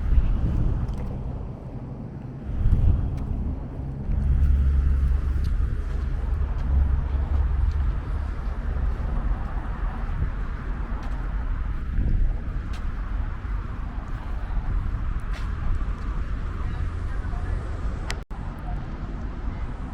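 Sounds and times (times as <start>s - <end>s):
road traffic passing: 0.0s - 19.9s
wind rumbling on microphone: 0.0s - 19.9s.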